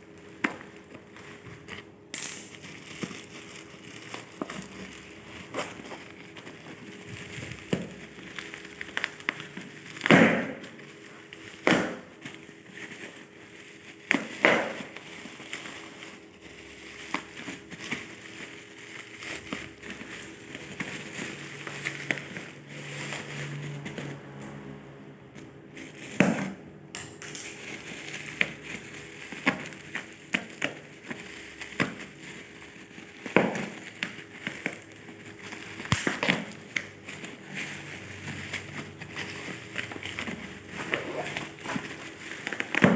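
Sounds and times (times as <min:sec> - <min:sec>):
plastic and paper rustling: 0:00.0 - 0:42.9.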